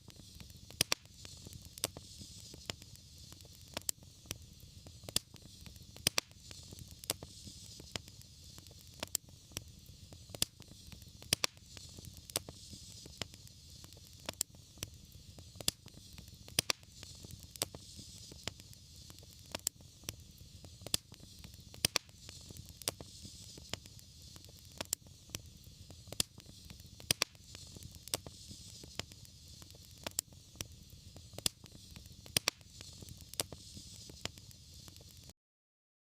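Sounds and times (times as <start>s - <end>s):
wood fire crackling and popping: 0.0s - 35.3s
fire low rumble and hiss: 0.0s - 35.4s.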